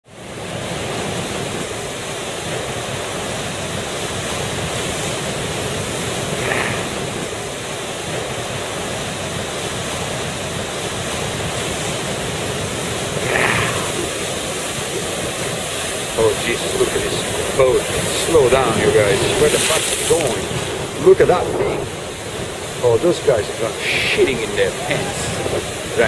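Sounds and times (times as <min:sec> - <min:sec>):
ocean surf breaking: 0:00.1 - 0:26.0
wind on microphone: 0:00.3 - 0:26.0.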